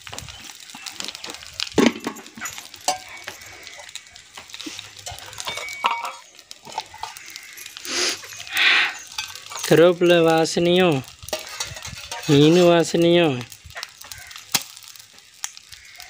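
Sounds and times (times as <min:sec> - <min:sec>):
fish sizzling in oil: 0:00.0 - 0:16.0
oil popping and crackling: 0:00.0 - 0:16.0.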